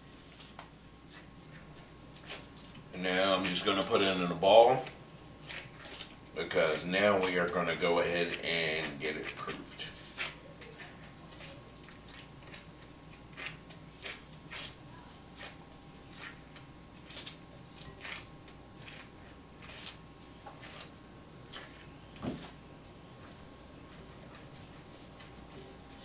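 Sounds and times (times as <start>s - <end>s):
bread dough squishing: 0.0s - 26.0s.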